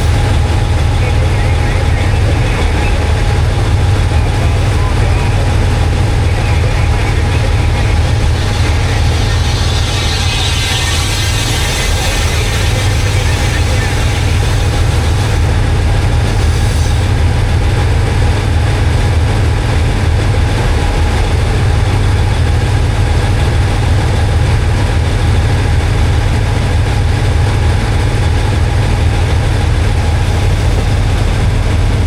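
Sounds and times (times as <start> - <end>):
diesel train engine droning: 0.0 - 32.0.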